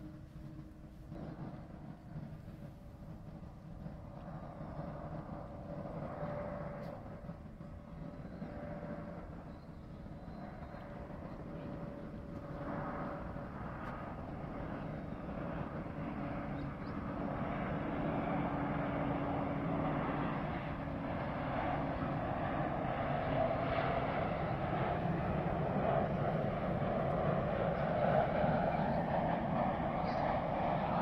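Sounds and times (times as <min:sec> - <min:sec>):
airliner engines rumbling: 0:00.0 - 0:31.0.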